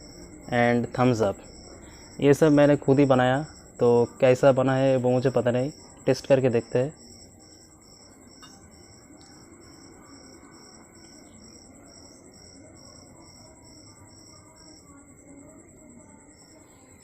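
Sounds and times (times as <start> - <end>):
crickets chirping: 0.0 - 17.0
faint low background noise: 0.0 - 17.0
high insect trill: 0.0 - 17.0.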